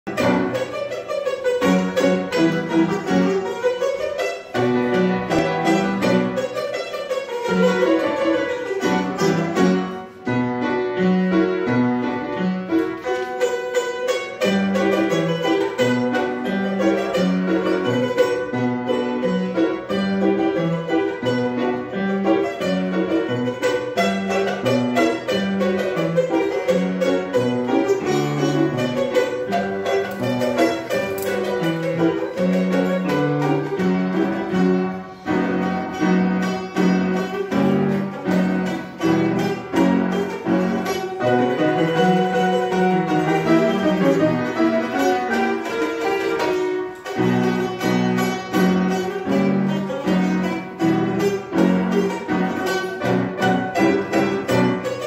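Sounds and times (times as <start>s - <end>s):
piano chords and bass: 0.0s - 3.5s, 4.5s - 6.6s, 7.5s - 55.0s
plucked string melody: 0.0s - 55.0s.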